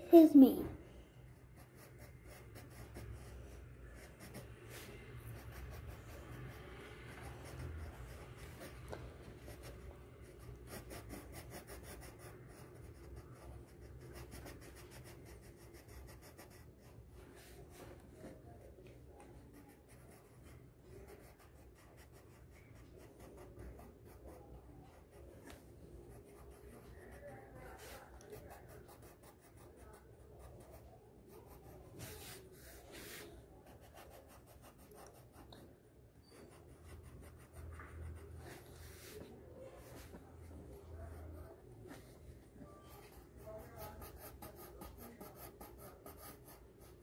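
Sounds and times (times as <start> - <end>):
pencil scratching on paper: 1.4 - 42.2, 42.9 - 47.0.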